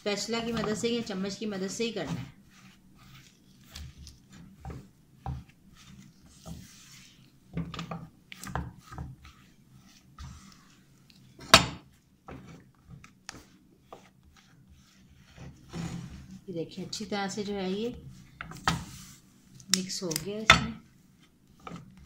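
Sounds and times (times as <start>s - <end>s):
spatula knocking and scraping pan: 0.1s - 19.0s, 20.2s - 22.0s.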